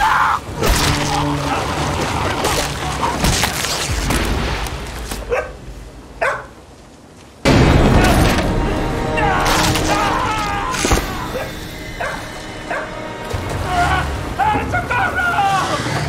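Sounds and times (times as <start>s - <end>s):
water splashing and thrashing: 0.0s - 6.1s, 7.5s - 16.0s.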